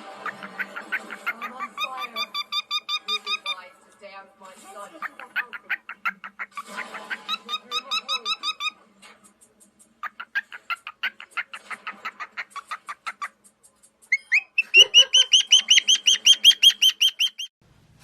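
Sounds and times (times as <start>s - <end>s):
parrot chirping: 0.0s - 3.8s, 4.8s - 17.5s.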